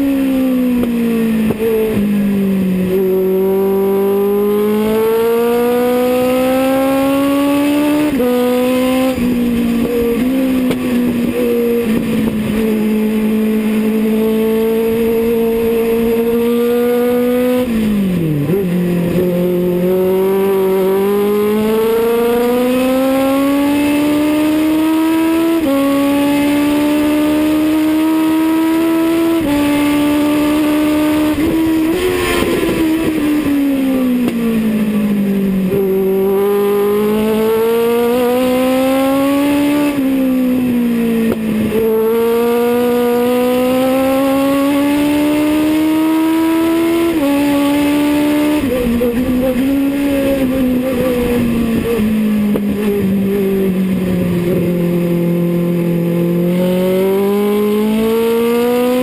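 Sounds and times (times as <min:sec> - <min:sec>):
race car engine revving: 0:00.7 - 0:59.0.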